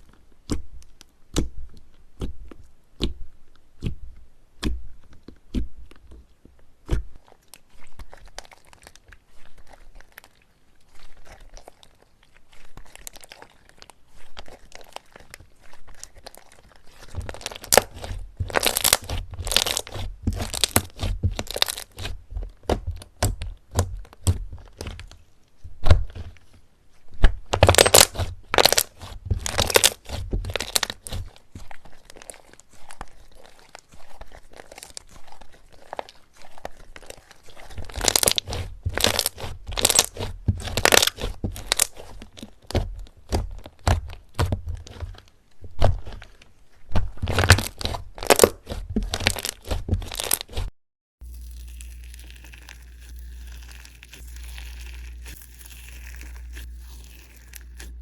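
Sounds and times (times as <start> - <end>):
slime popping and crackling: 6.8 - 25.2, 27.2 - 45.1, 47.2 - 58.0.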